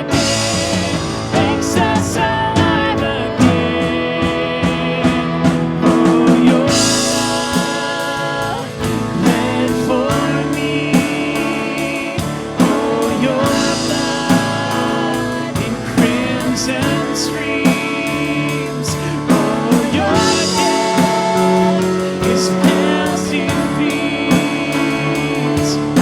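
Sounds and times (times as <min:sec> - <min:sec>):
drum kit beat: 0:00.0 - 0:26.0
guitar: 0:00.0 - 0:26.0
people singing: 0:00.0 - 0:26.0.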